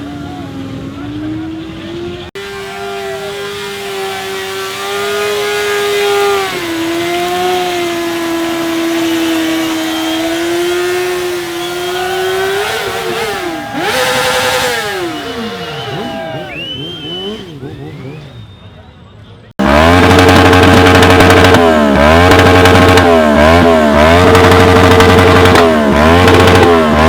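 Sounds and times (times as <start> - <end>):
motorcycle engine revving: 0.0 - 18.6, 19.5 - 27.0.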